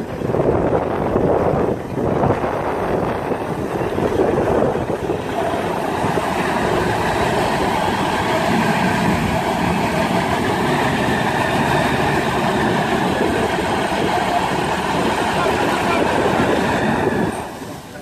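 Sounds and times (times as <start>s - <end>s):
outboard motors running: 0.0s - 18.0s
propellers churning water: 0.0s - 18.0s.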